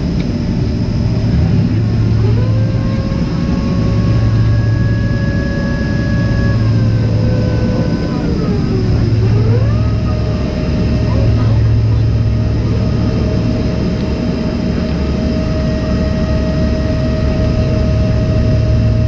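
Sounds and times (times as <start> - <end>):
airplane cabin rumble: 0.0 - 19.0
jet engine whine: 0.0 - 19.0.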